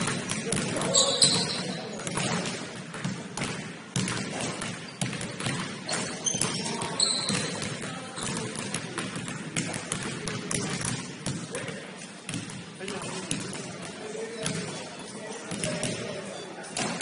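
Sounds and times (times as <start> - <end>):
basketball bouncing on gym floor: 0.0 - 11.7, 12.3 - 14.7.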